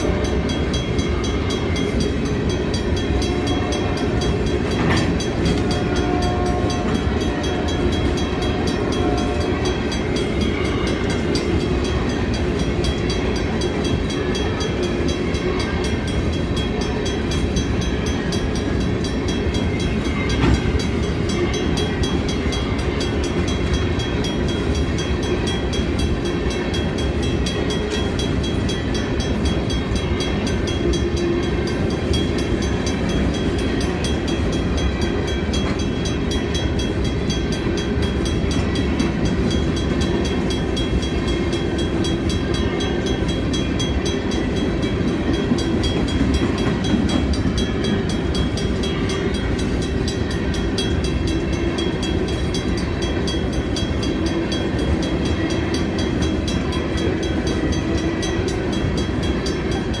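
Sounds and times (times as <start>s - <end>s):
freight train wheels rumbling: 0.0s - 60.0s.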